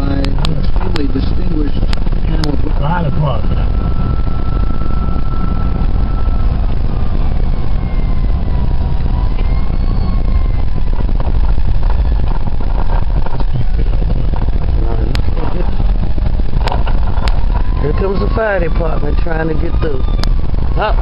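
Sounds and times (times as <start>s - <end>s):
car engine and road noise: 0.0s - 21.0s
distant fire engine siren: 0.0s - 21.0s.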